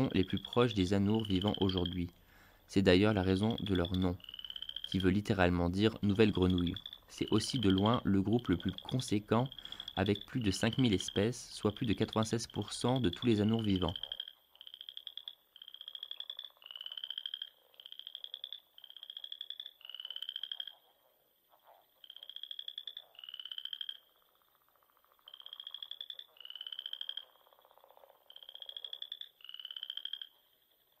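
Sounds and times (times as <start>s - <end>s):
frog calling: 0.0s - 31.0s.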